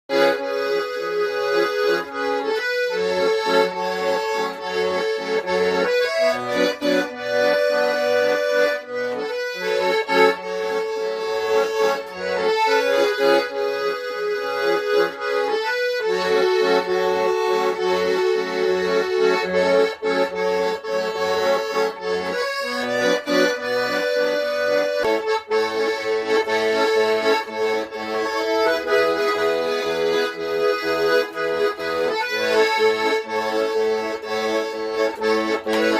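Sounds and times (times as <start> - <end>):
button accordion folk tune: 0.1 - 35.9.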